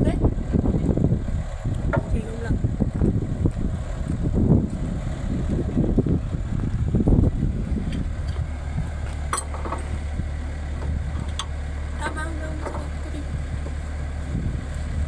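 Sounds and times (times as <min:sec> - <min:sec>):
engine droning at low revs: 0:00.0 - 0:15.0
irregular low rumbling: 0:00.0 - 0:15.0.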